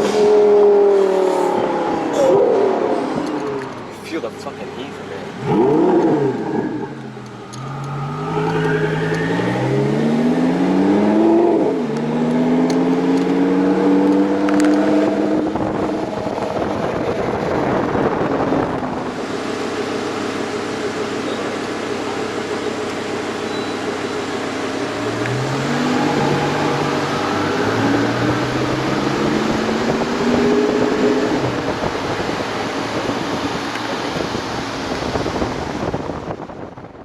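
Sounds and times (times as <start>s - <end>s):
sports car engine accelerating: 0.0s - 36.7s.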